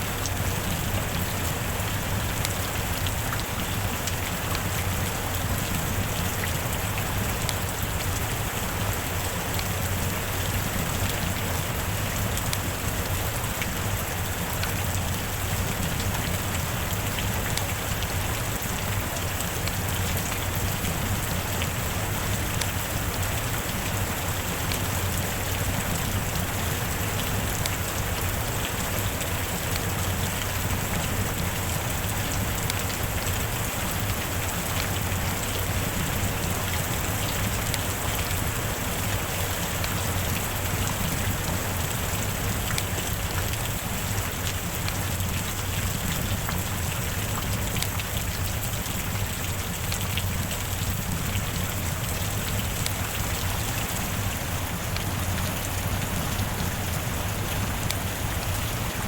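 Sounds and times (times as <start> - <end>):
heavy rain on a roof: 0.0 - 59.0.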